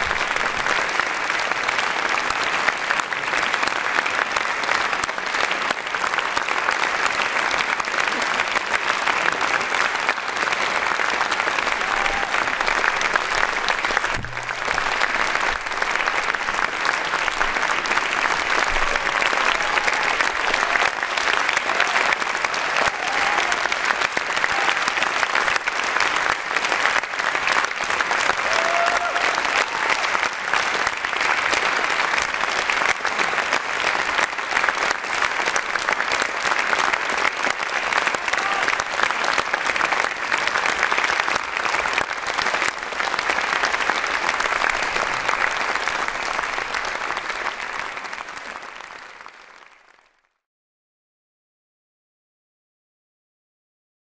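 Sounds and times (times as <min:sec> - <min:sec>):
audience applauding: 0:00.0 - 0:50.4.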